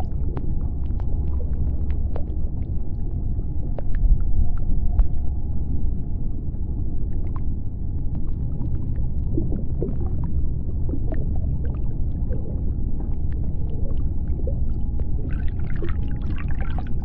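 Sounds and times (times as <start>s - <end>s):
underwater low rumble: 0.0s - 17.0s.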